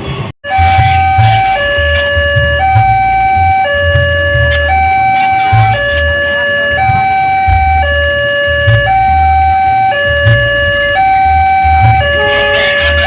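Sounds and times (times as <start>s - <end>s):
level crossing two-tone alarm: 0.4s - 13.0s.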